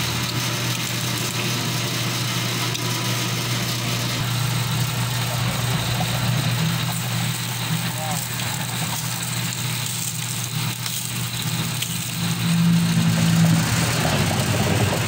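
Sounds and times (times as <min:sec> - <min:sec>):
juice press humming: 0:00.0 - 0:15.0.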